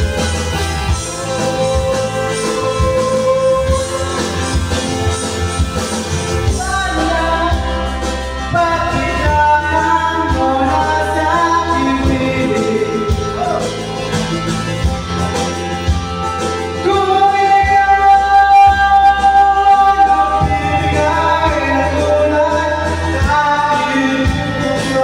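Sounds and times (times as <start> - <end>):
man singing into a microphone: 0.0 - 14.5, 15.1 - 25.0
instrumental accompaniment: 0.0 - 25.0.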